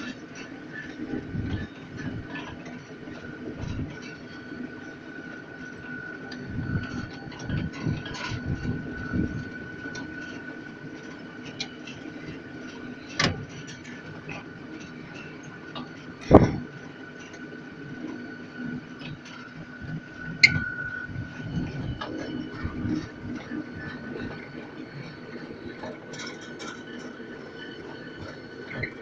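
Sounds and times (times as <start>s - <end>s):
ride train rumbling on track: 0.0s - 29.0s.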